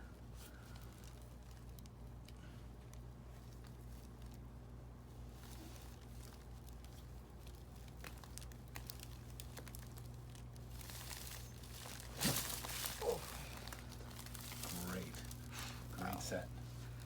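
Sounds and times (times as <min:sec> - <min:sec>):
low electrical hum: 0:00.0 - 0:17.0
rustling and crinkling: 0:00.2 - 0:17.0.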